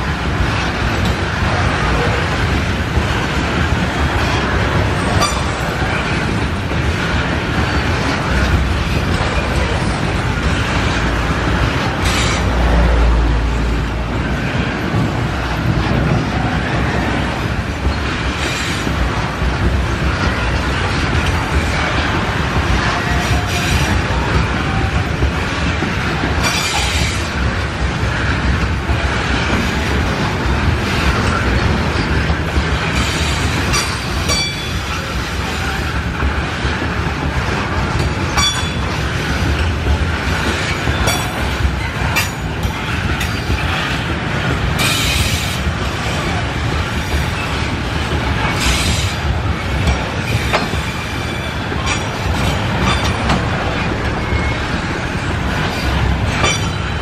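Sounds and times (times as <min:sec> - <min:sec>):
train wagons rumbling: 0:00.0 - 0:57.0
wheels clacking over rail joints: 0:00.0 - 0:57.0.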